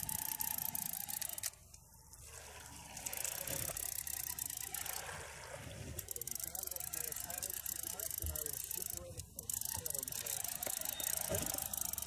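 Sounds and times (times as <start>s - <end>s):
fishing reel clicking: 0.0s - 1.8s, 2.9s - 5.1s, 6.0s - 12.0s.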